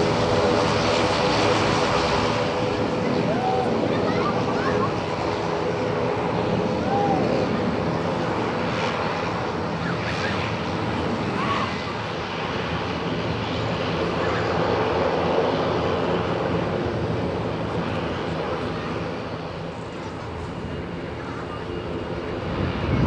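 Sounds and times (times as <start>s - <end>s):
turboprop engines droning: 0.0s - 23.0s.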